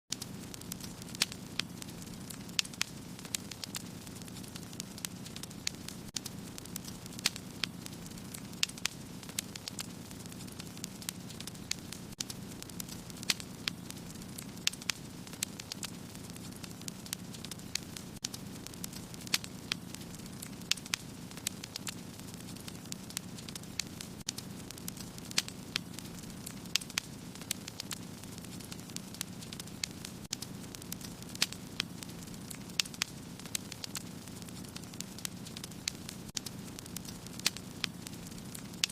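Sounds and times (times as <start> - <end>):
fire crackling and popping: 0.1 - 38.9
low rumble of flames: 0.1 - 38.9.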